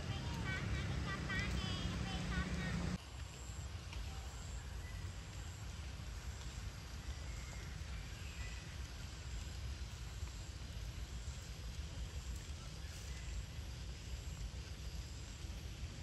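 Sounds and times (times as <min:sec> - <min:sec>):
faint even hiss: 0:00.0 - 0:16.0.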